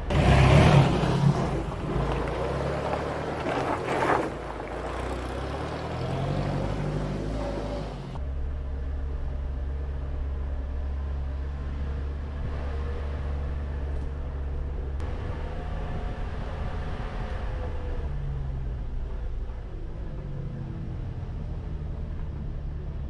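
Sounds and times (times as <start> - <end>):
van engine running: 0.0 - 23.0.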